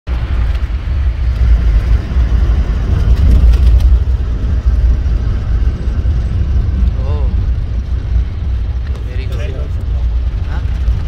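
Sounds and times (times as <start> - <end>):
vehicle driving on dirt track: 0.1 - 11.0.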